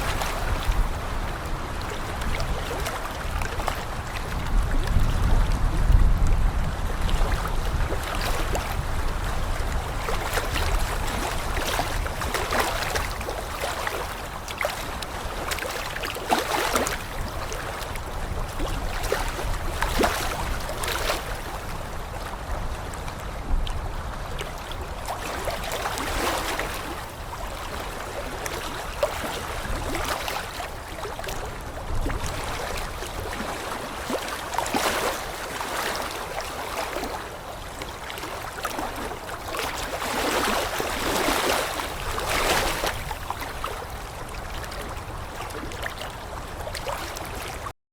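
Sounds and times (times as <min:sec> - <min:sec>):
water rushing and splashing: 0:00.0 - 0:47.7.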